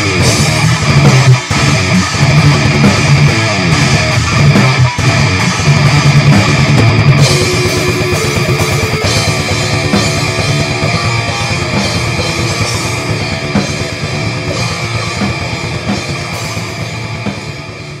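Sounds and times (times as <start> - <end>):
rock music on guitar and drums: 0.0 - 18.0.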